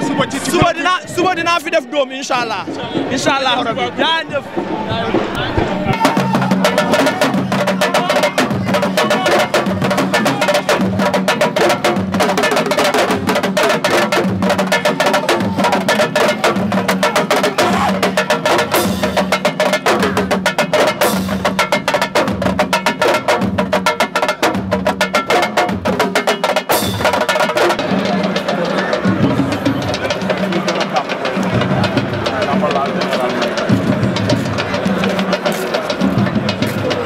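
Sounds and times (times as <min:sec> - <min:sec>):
drum ensemble fast rhythm: 0:00.0 - 0:37.0.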